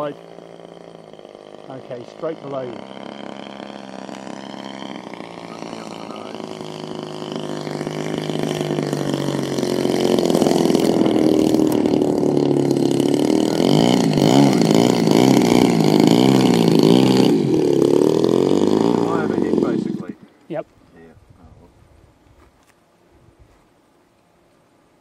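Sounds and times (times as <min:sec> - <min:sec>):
model plane engine running: 0:00.0 - 0:20.4.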